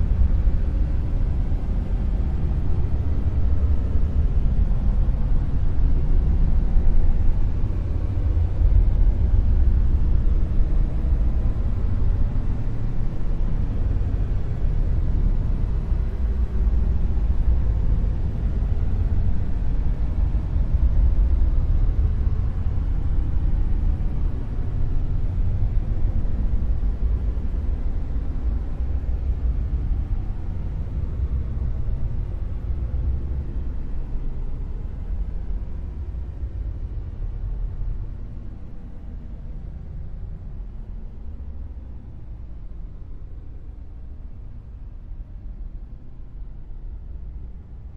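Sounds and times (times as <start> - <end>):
deep rumbling noise hiss: 0.0 - 47.9.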